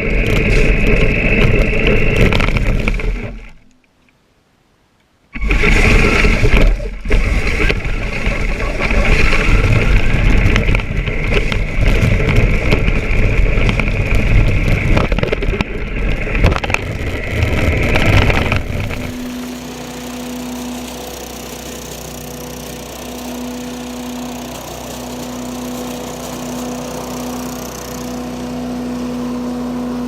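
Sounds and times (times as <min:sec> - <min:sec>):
electric motor whine: 0:00.0 - 0:03.6, 0:05.4 - 0:30.0
steady hum: 0:00.0 - 0:30.0.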